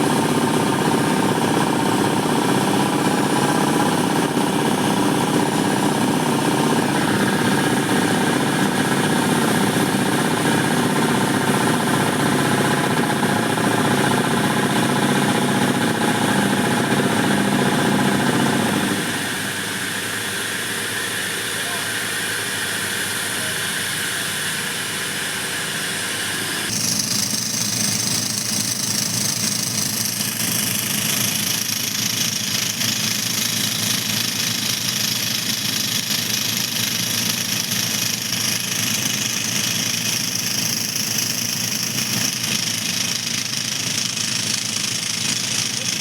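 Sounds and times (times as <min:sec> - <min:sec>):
heavy drill machine running: 0:00.0 - 0:46.0.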